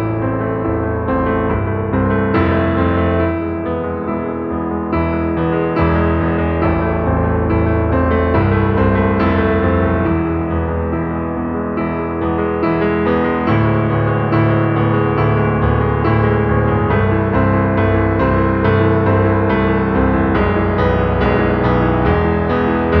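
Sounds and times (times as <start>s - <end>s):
piano background music: 0.0s - 23.0s.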